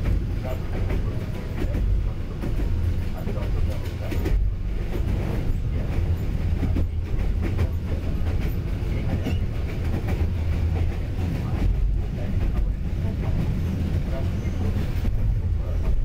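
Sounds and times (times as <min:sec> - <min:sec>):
train rumble inside carriage: 0:00.0 - 0:16.0
wheels clattering over rail joints: 0:00.0 - 0:16.0.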